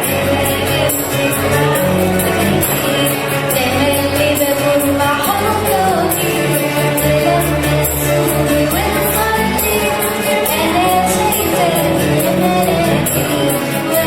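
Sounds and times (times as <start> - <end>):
instrumental backing with beat: 0.0 - 14.0.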